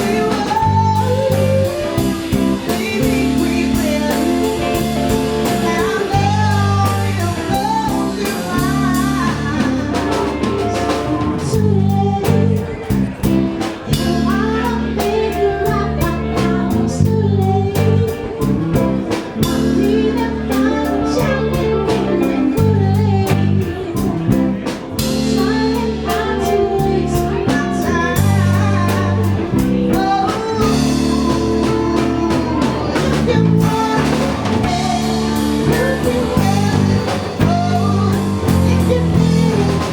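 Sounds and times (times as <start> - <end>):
bass line: 0.0 - 39.9
drum kit: 0.0 - 39.9
guitar: 0.0 - 39.9
person singing: 0.0 - 39.9.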